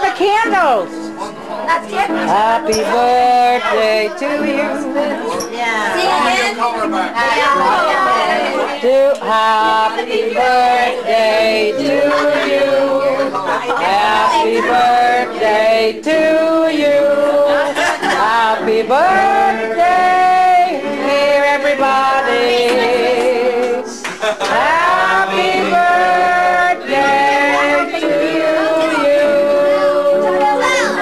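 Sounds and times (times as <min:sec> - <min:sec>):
group singing birthday song: 0:00.0 - 0:31.0.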